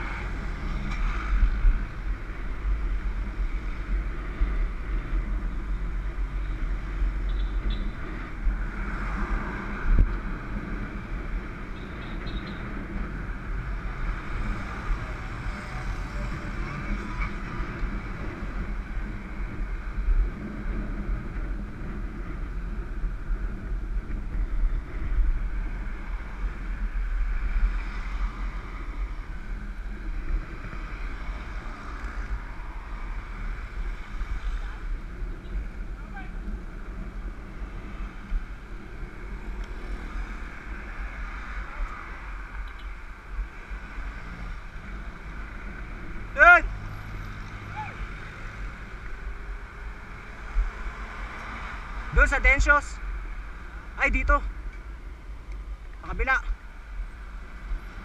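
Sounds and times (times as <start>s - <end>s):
low road rumble: 0.0s - 58.0s
traffic passing: 0.0s - 58.0s.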